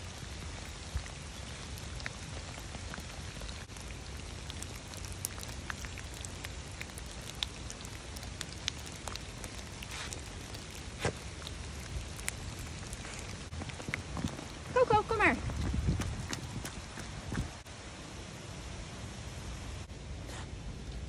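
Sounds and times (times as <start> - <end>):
steady rain falling: 0.0 - 21.0
raindrop ticks: 0.1 - 17.7.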